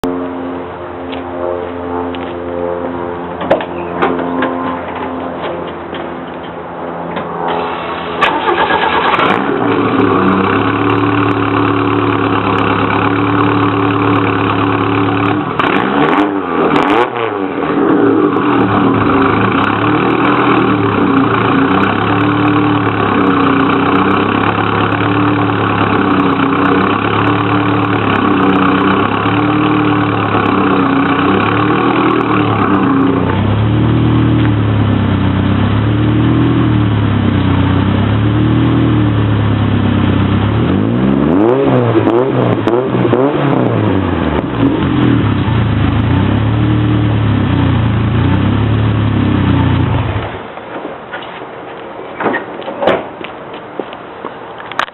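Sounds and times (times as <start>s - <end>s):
turbocharged engine idling and revving: 0.0s - 50.5s.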